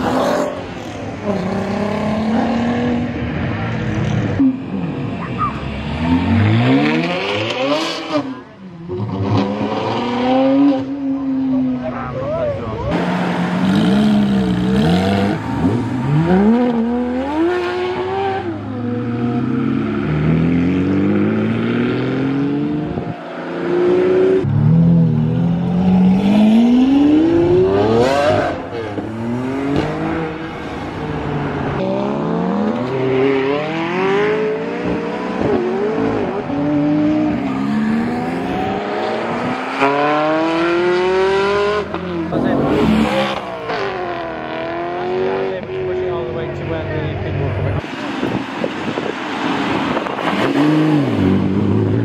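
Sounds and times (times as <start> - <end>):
car engines revving and accelerating: 0.0 - 52.0.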